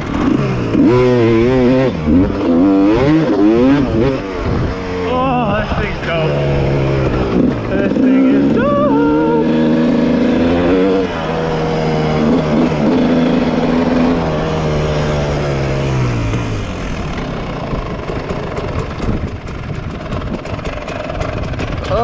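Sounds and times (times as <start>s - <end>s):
two-stroke motorcycle engine: 0.0s - 22.0s.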